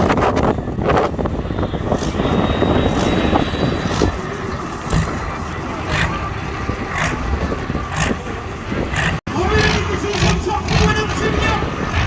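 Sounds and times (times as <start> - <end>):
heavy engine deep rumble: 0.0 - 12.0.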